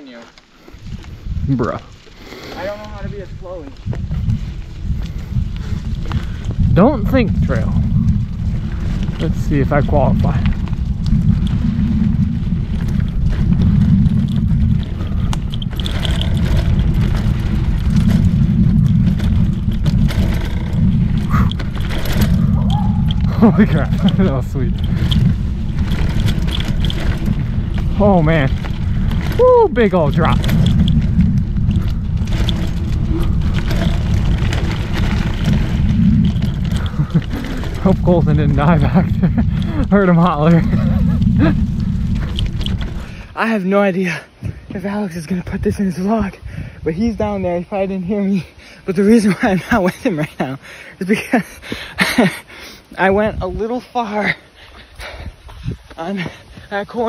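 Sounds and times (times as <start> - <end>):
bike clicks and rattles: 0.0 - 47.4
wind rumble on microphone: 0.0 - 57.0.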